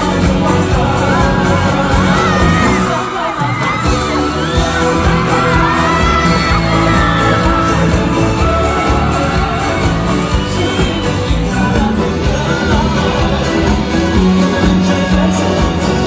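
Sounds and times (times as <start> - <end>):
band with steady beat: 0.0 - 16.0
man singing amplified: 0.0 - 16.0.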